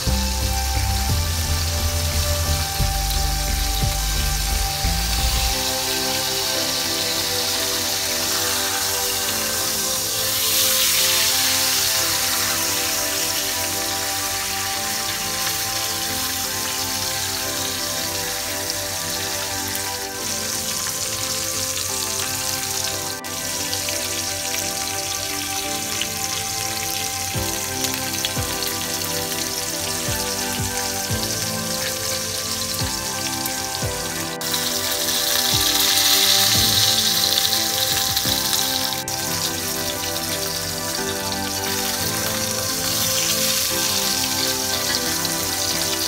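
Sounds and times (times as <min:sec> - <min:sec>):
background music: 0:00.0 - 0:46.0
hot oil sizzling: 0:00.0 - 0:46.0.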